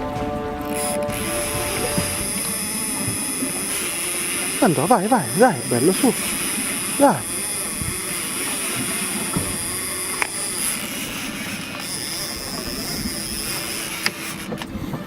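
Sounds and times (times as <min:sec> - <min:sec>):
boat motor humming: 0:00.0 - 0:15.0
wind and water noise: 0:00.0 - 0:15.0
faint clicks: 0:00.7 - 0:15.0.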